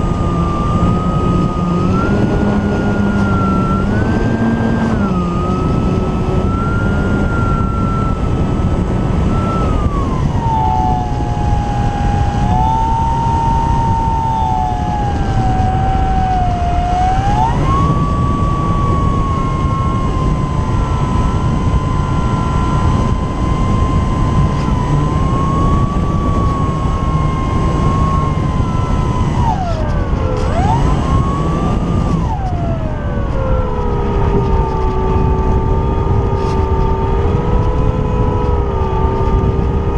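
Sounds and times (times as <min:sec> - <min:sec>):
model plane motor whining: 0:00.0 - 0:39.9
wind rushing: 0:00.0 - 0:39.9.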